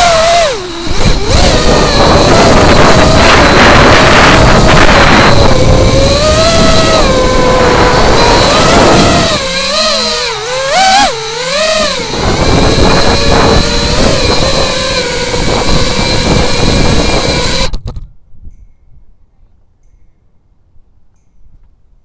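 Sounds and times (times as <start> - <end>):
rushing noise: 0.0 - 17.7
drone motors whining: 0.0 - 17.8
motor clicks: 0.0 - 18.0.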